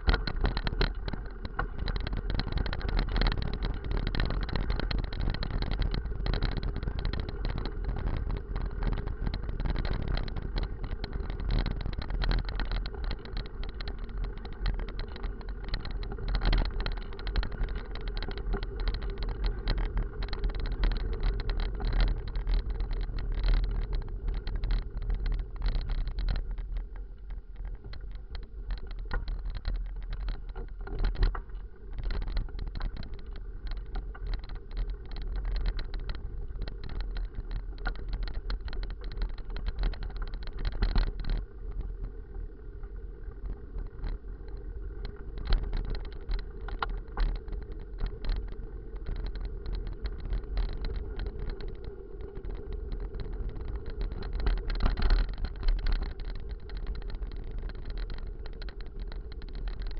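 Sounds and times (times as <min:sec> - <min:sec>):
bike rattling over bumps: 0:00.0 - 0:59.9
wind rumbling on microphone: 0:00.0 - 0:59.9.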